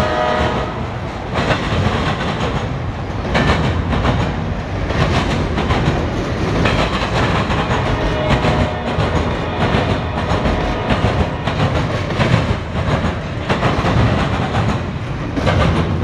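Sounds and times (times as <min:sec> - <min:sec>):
train wheels rumbling on rail: 0:00.0 - 0:16.0
wheels clacking over rail joints: 0:00.2 - 0:16.0.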